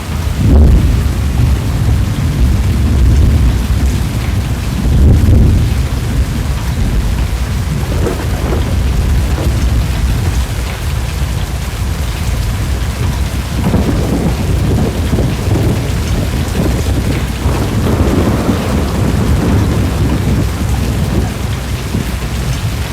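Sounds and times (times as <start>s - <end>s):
deep rumbling thunder: 0.0s - 22.9s
heavy rain: 0.0s - 22.9s.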